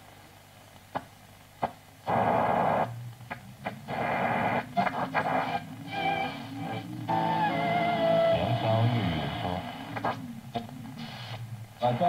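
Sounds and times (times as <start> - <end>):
radio hiss: 0.0 - 12.0
radio static crackles: 0.0 - 12.0
radio broadcast fragments: 1.6 - 12.0.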